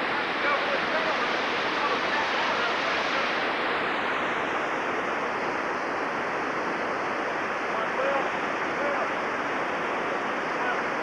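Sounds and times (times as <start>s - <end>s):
water rushing over boulders: 0.0s - 11.0s.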